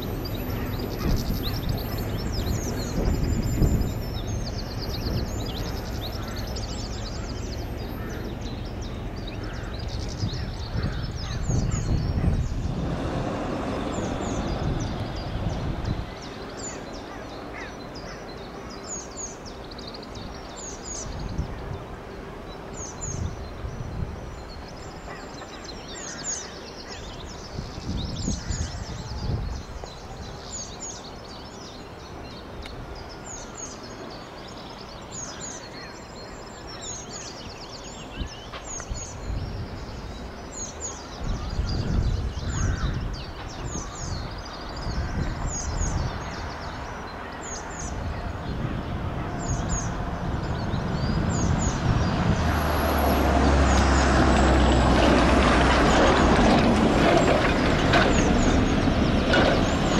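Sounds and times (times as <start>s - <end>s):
small birds chirping: 0.0s - 55.2s
wind rumble on microphone: 0.0s - 59.9s.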